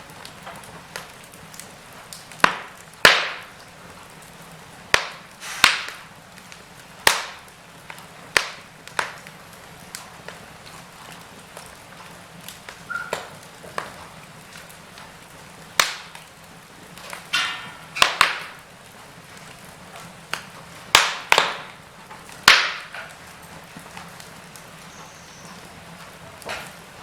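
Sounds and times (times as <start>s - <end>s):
fire hissing: 0.0s - 27.0s
wood fire crackling: 0.0s - 27.0s.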